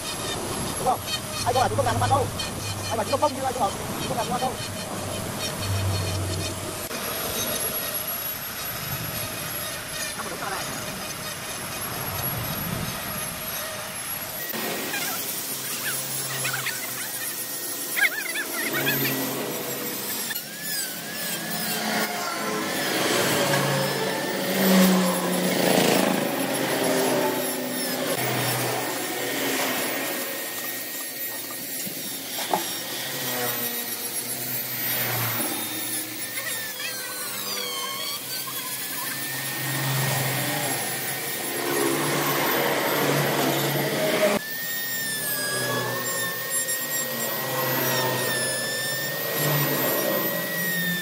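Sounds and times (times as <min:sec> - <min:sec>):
power tool motor whine: 0:00.0 - 0:51.0.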